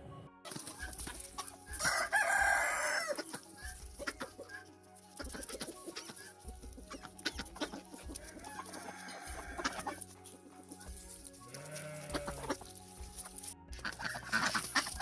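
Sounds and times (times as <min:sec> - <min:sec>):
chickens clucking: 0:00.4 - 0:15.0.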